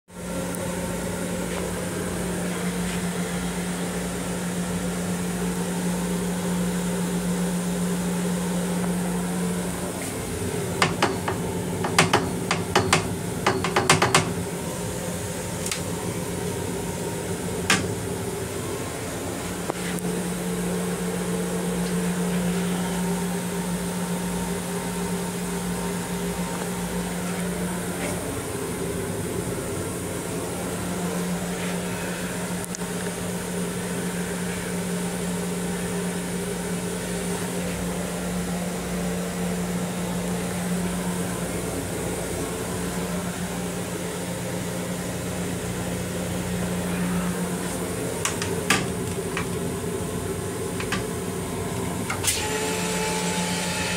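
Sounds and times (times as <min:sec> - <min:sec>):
ventilation hum: 0:00.1 - 0:53.9.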